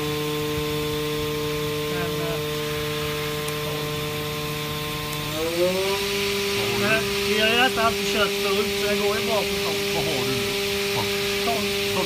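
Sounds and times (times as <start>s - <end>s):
machine spindle whine: 0.0s - 12.0s.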